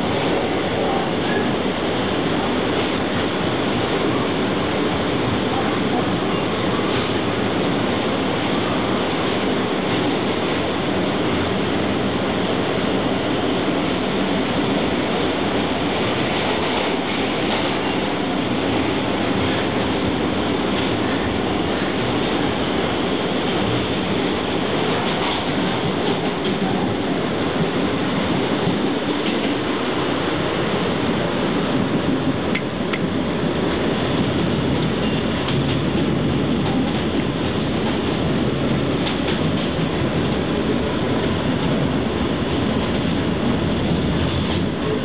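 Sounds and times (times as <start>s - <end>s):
subway car wheels on rail: 0.0s - 45.0s.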